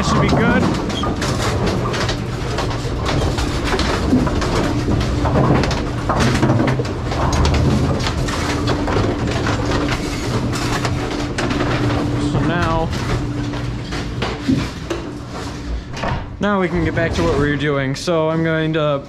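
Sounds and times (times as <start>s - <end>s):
machinery clanking and rattling: 0.0s - 19.0s
motor hum: 0.0s - 19.0s.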